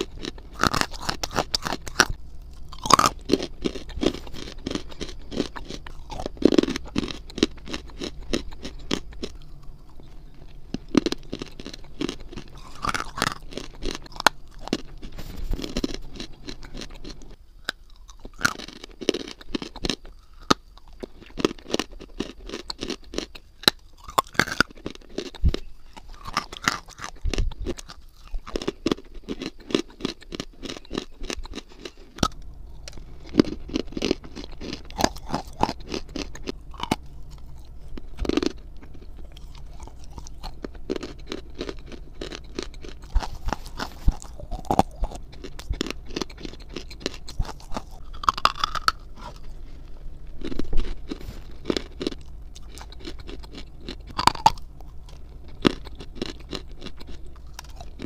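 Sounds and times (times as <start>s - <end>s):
chewing crunchy clay: 0.0s - 58.0s.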